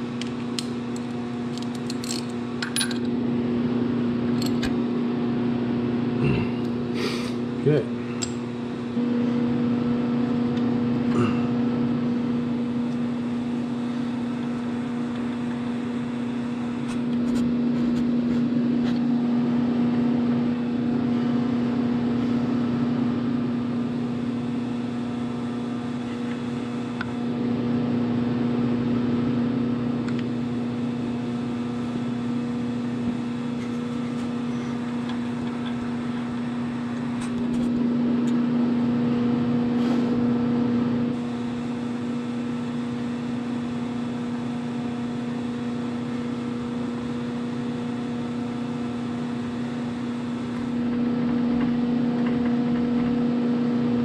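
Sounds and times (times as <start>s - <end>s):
electrical hum of machinery: 0.0s - 54.0s.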